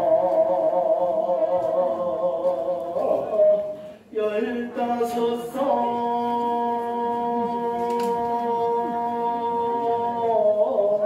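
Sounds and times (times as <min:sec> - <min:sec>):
person singing folk lament: 0:00.0 - 0:11.0.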